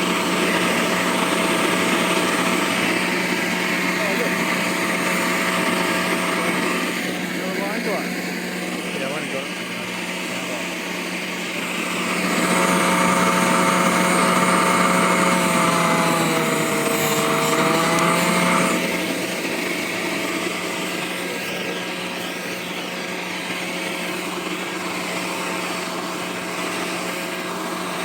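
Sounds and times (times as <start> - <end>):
electric vacuum blower whining: 0.0 - 28.0.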